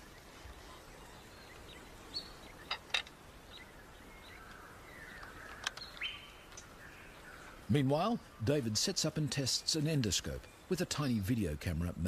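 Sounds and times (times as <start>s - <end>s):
outdoor bush ambience: 0.0s - 12.0s.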